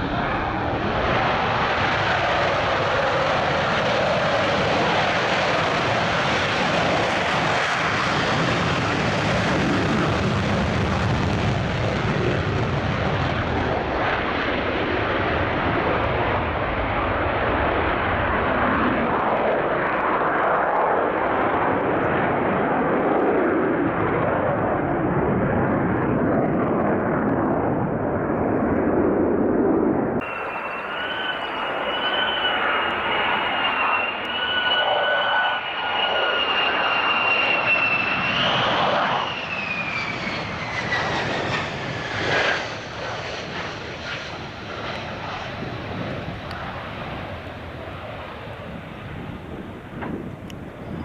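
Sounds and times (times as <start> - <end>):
fighter jet engines: 0.0 - 51.0.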